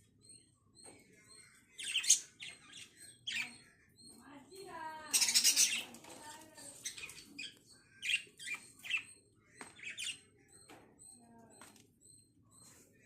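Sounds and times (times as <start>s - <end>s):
faint high peeps: 0.0s - 13.0s
lovebirds chirping: 0.0s - 13.0s.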